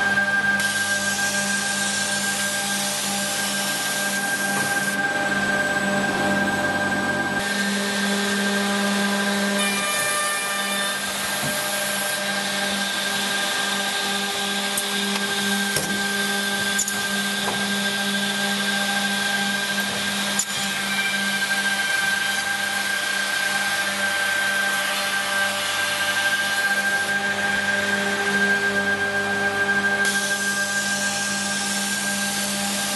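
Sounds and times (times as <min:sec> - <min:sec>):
machine motor hum and whine: 0:00.0 - 0:32.9.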